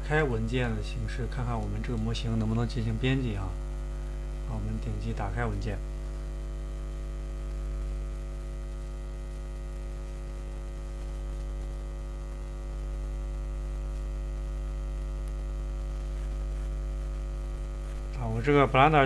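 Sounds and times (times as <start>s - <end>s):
faint electrical buzz: 0.0s - 19.0s
low electrical mains hum: 0.0s - 19.0s.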